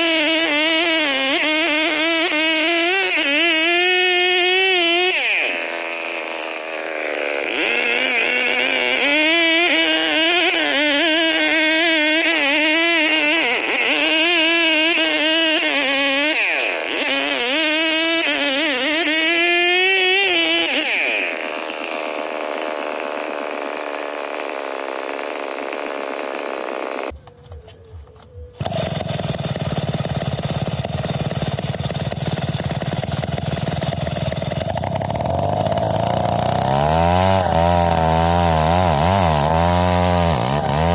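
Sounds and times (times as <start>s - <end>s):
chainsaw running and revving: 0.0s - 27.2s, 28.6s - 40.9s.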